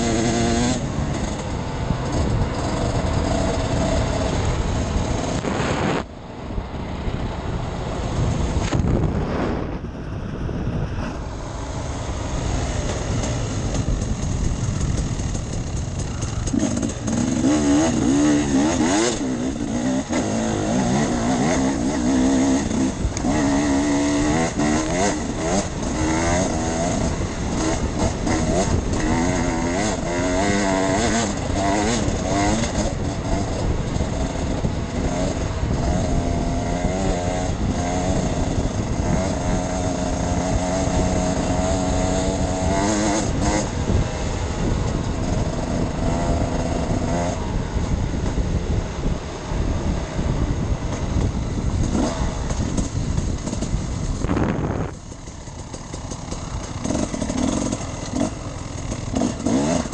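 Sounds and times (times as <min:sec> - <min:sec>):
dirt bike engine revving: 0:00.0 - 0:06.3, 0:07.7 - 0:59.9.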